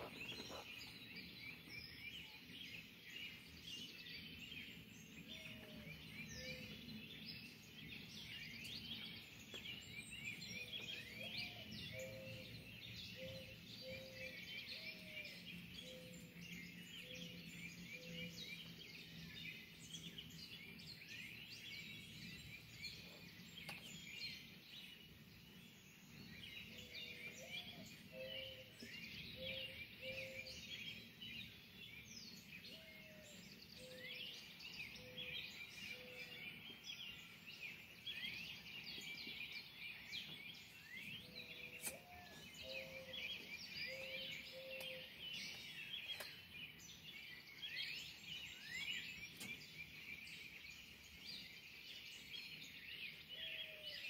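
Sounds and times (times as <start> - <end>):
low slow bird call: 0.0 - 54.0
songbirds chirping and singing: 0.0 - 54.0.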